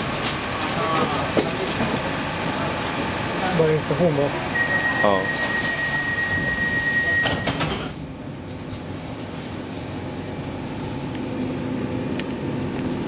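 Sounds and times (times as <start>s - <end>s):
metro train rumble: 0.0s - 13.0s
train steady hum: 0.0s - 13.0s.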